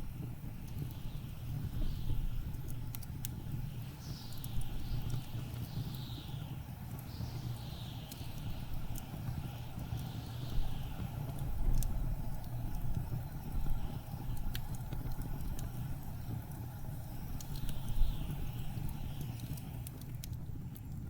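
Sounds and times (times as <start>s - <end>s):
blizzard wind whistling: 0.0s - 19.9s
wood fire crackling: 0.0s - 21.0s.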